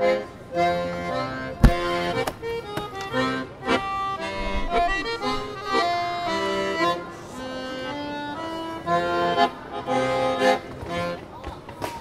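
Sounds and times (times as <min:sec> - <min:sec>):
accordion playing chords: 0:00.0 - 0:11.3.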